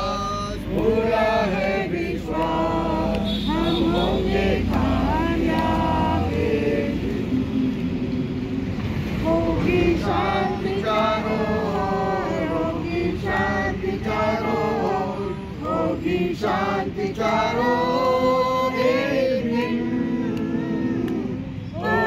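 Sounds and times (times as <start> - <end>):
group singing: 0.0 - 8.0, 8.9 - 22.0.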